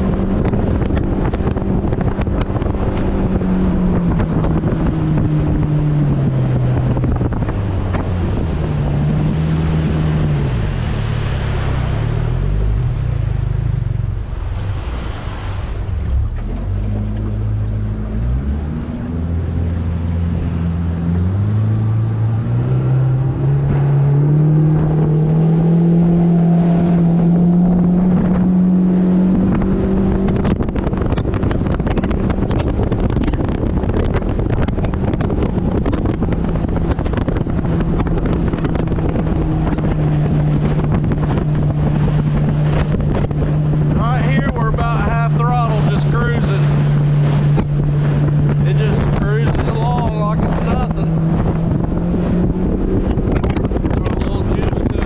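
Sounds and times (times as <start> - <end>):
outboard boat engine running: 0.0 - 55.0
water rushing: 0.0 - 55.0
wind on microphone: 0.0 - 55.0.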